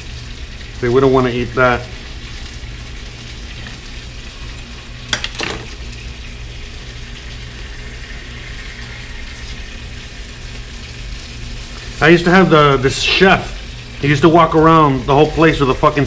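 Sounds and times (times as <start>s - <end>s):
chicken sizzling in a pan: 0.0s - 16.0s.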